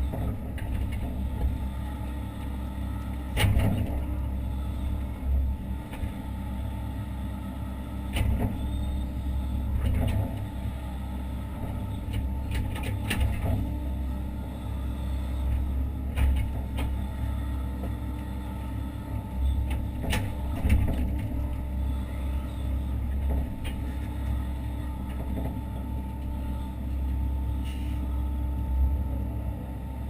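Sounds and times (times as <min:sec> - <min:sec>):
excavator engine drone: 0:00.0 - 0:30.0.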